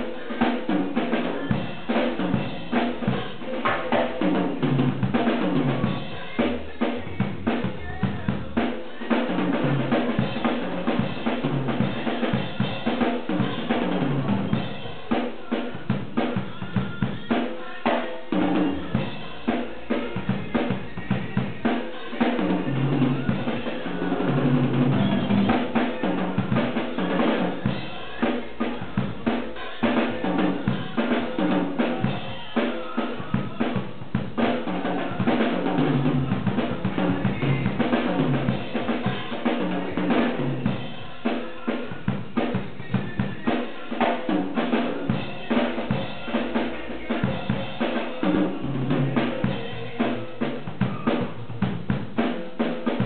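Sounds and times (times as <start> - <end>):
backing music: 0.0 - 53.0
drum kit groove: 0.0 - 53.0.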